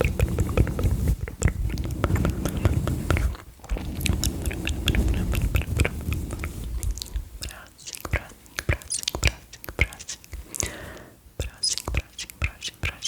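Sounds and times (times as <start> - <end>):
brushes rustling on microphone: 0.0 - 10.5
wet mouth clicks: 0.0 - 13.0.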